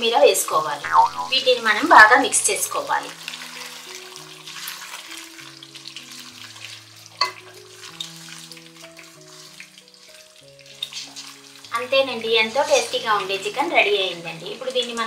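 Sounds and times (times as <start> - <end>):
soft background music: 0.0 - 15.0
curry sizzling in a pan: 2.6 - 15.0.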